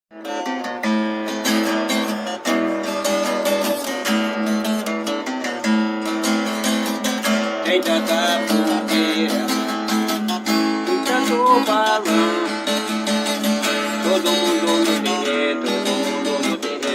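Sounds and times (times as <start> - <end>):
strummed guitar melody: 0.1 - 16.9.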